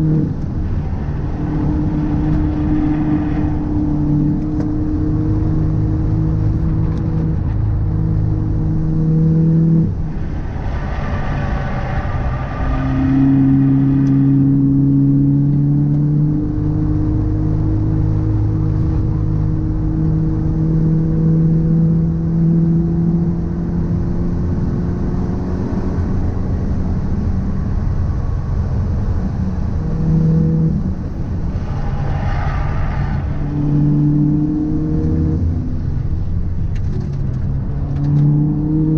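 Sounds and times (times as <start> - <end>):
car engine: 0.0 - 38.9
low road rumble: 0.0 - 38.9.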